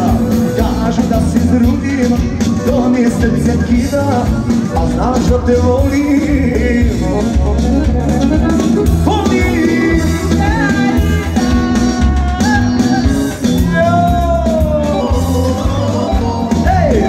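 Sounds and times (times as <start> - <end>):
live band music: 0.0 - 17.0
low beat and bass: 0.0 - 17.0.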